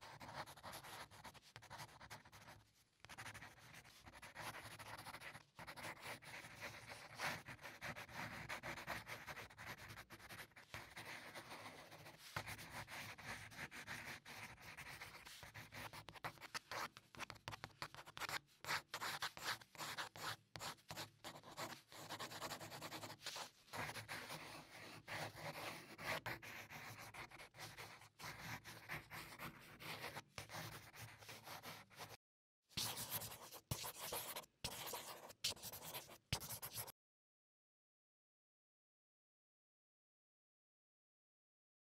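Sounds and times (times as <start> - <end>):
pencil scratching on paper: 0.0 - 32.2, 32.8 - 36.9.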